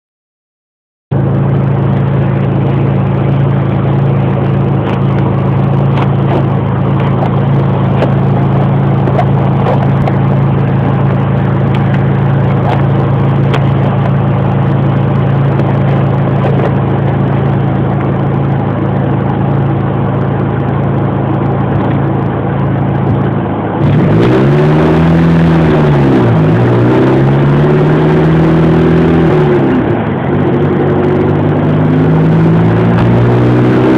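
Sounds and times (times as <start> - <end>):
car engine running: 1.1 - 33.9
wind noise on microphone: 1.1 - 33.9.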